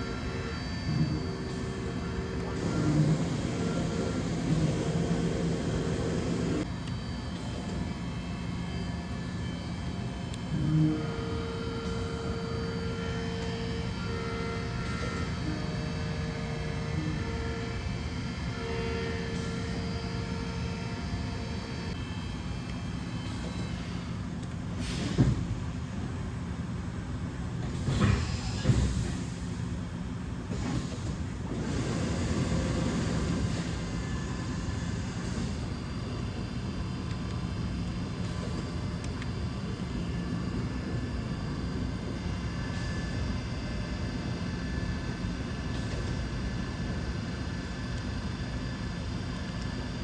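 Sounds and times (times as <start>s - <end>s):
machine humming and whining: 0.0s - 50.0s.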